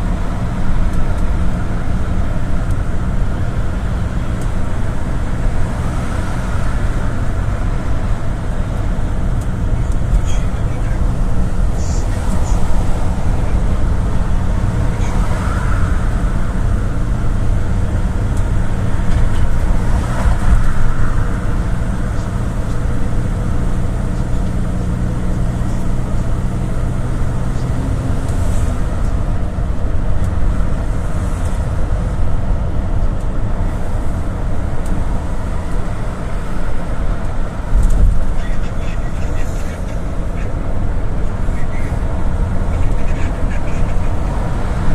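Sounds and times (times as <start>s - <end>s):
minibus engine hum: 0.0s - 44.9s
road noise: 0.0s - 44.9s.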